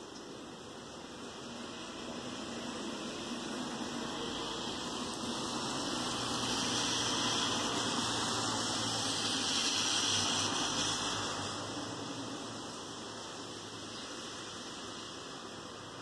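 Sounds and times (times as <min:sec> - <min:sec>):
steady rain: 0:00.0 - 0:16.0
car tyres hissing on wet road: 0:00.8 - 0:16.0.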